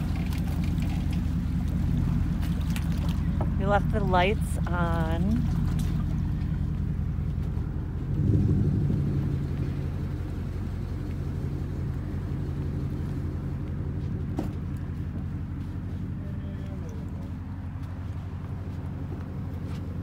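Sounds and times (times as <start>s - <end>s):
pickup truck engine rumbling: 0.0s - 20.0s.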